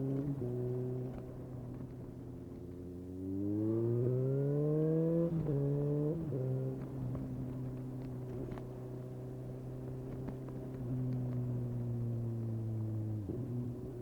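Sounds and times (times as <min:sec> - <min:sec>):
motorcycle engine revving steadily: 0:00.0 - 0:14.0.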